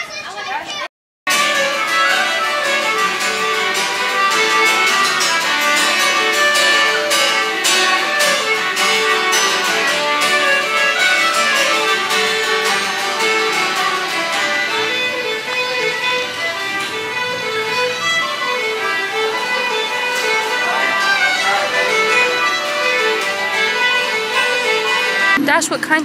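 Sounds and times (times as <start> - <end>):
fiddles: 0.0 - 25.4
acoustic guitar: 0.1 - 26.0
accordion: 1.3 - 26.0
hammered dulcimer: 1.3 - 26.0.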